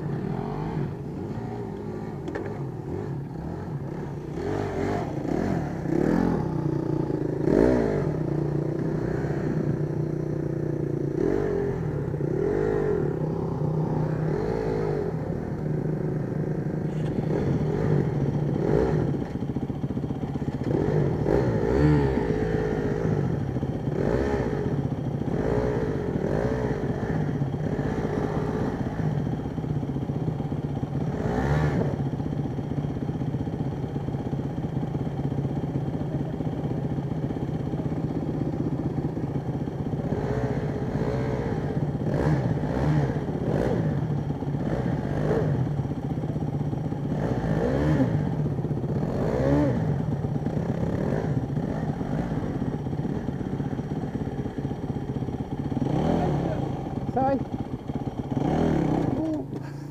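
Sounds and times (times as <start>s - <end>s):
dirt bike idling: 0.0s - 59.9s
dirt bike revving: 0.0s - 59.9s.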